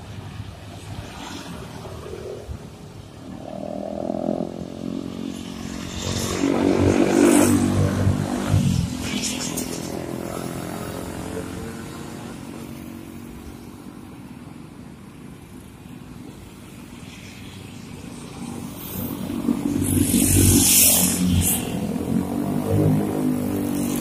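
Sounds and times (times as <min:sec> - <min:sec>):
motorcycle and car engines passing: 0:00.0 - 0:24.0.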